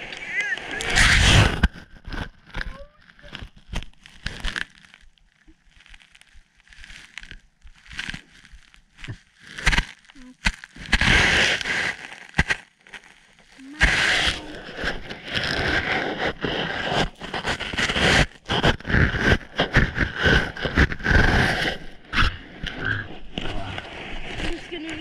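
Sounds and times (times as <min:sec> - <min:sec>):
snow crunching and scraping: 0:00.0 - 0:04.8, 0:09.2 - 0:25.0.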